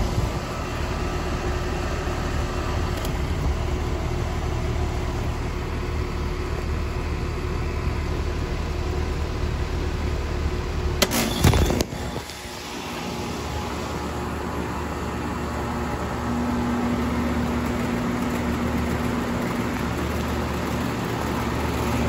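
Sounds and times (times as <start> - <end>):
heat pump humming: 0.0 - 22.0.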